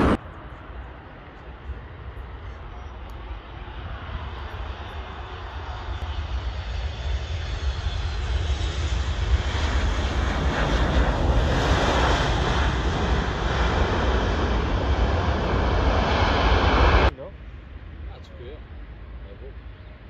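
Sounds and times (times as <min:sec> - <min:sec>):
jet engines on landing: 0:00.0 - 0:20.0.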